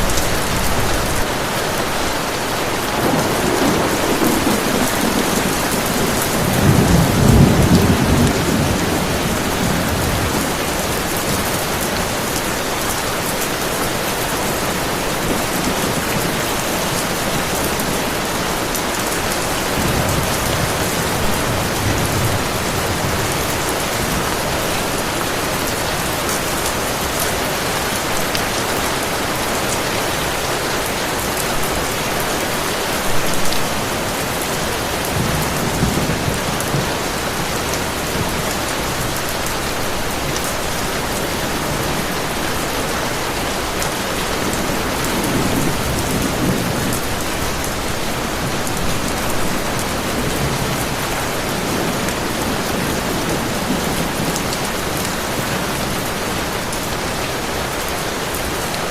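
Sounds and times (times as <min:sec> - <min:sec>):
thunder rumbling: 0:00.0 - 0:13.2, 0:14.6 - 0:29.4, 0:31.3 - 0:56.8
heavy rain: 0:00.0 - 0:58.9.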